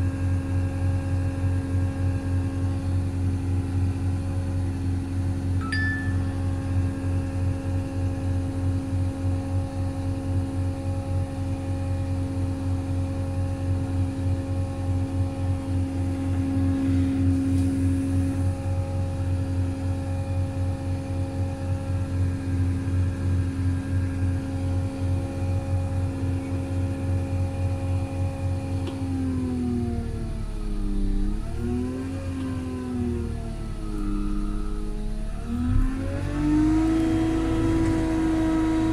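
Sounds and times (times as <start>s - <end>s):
diesel roller engine humming: 0.0s - 38.9s.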